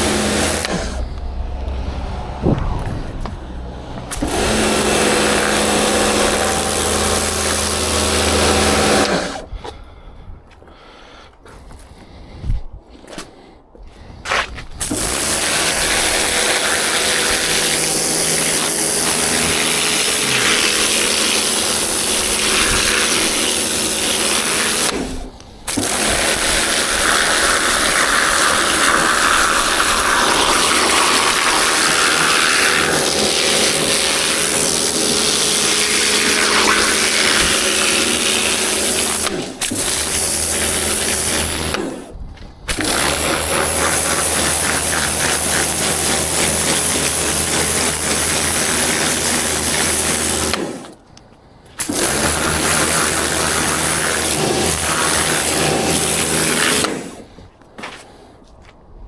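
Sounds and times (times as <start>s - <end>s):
motor-driven machine running: 0.0s - 9.5s, 14.8s - 42.0s, 42.7s - 50.8s, 51.8s - 57.3s.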